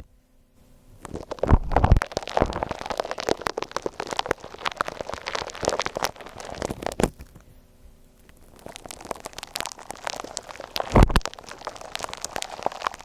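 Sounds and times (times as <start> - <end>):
slime crunching and crackling: 1.0 - 13.0.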